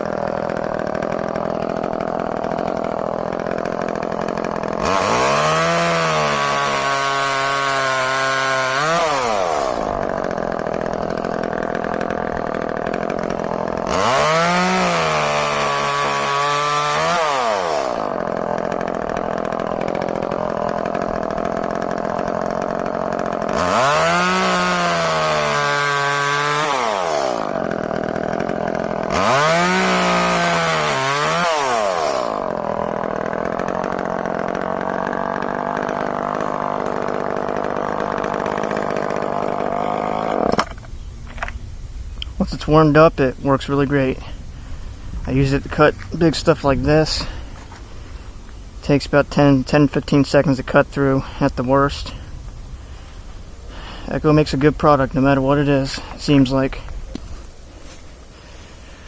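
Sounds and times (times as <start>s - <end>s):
chainsaw idling: 0.0s - 59.0s
chainsaw revving cutting log: 0.0s - 59.0s.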